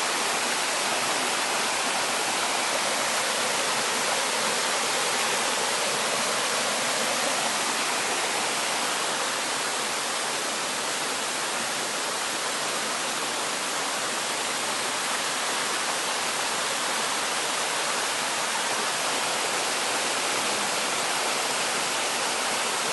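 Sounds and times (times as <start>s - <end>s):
stream water rushing over rocks: 0.0s - 22.9s.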